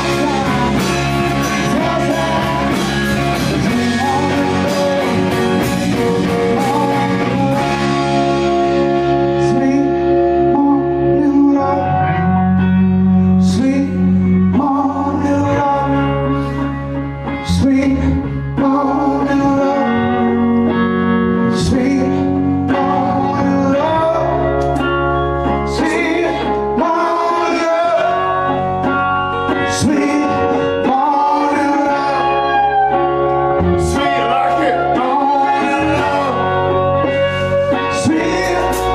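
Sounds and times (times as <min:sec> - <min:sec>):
blues-rock band playing: 0:00.0 - 0:38.9
man singing: 0:00.0 - 0:38.9.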